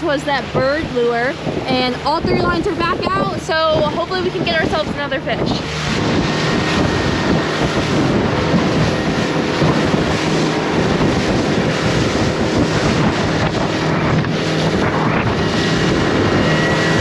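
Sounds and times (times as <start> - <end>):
boat motor running: 0.0 - 17.0
water rushing past hull: 0.0 - 17.0
wind buffeting microphone: 0.0 - 17.0.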